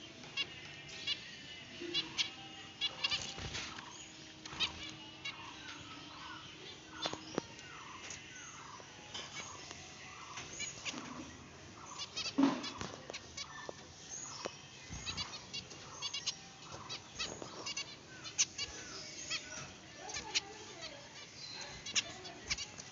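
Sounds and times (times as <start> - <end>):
finches beeping calls: 0.3 - 22.9.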